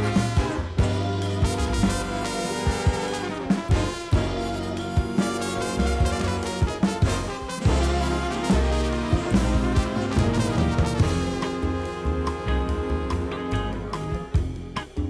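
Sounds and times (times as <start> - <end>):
drum hits: 0.0 - 15.0
upbeat jazz with brass: 0.0 - 15.0.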